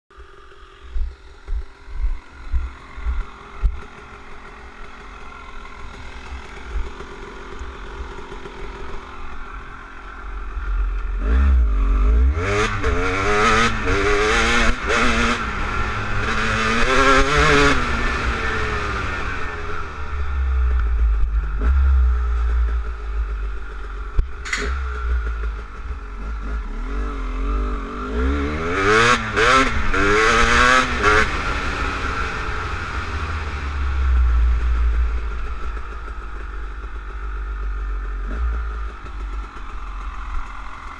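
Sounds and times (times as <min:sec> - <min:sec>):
motorcycle engine revving: 0:00.1 - 0:40.9.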